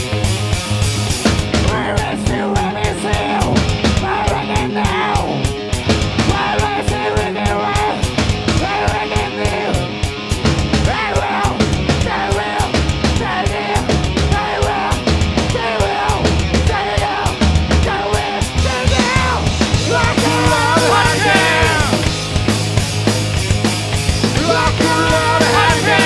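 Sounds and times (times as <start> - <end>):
pounding drum kit: 0.0 - 26.0
punk rock band playing: 0.0 - 26.0.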